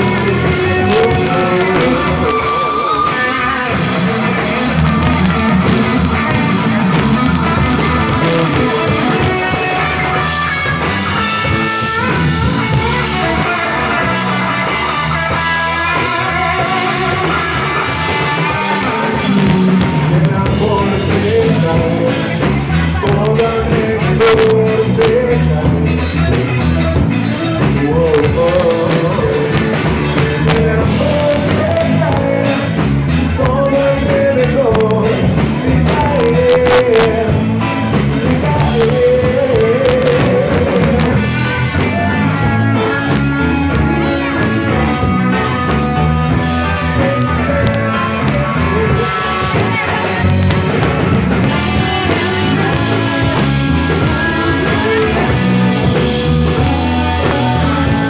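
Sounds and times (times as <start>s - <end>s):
drums: 0.0s - 58.0s
electric guitar: 0.0s - 58.0s
person singing: 0.0s - 58.0s.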